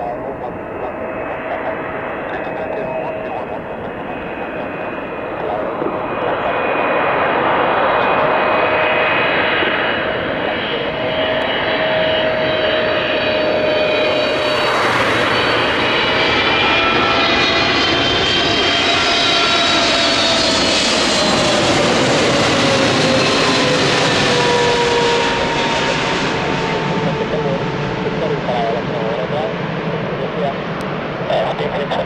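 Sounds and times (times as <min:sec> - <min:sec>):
jet aircraft passing low: 0:00.0 - 0:32.0.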